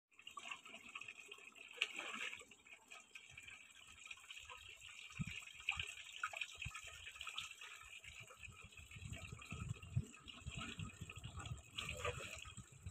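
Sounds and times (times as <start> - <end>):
water trickling and splashing: 0.1 - 12.9.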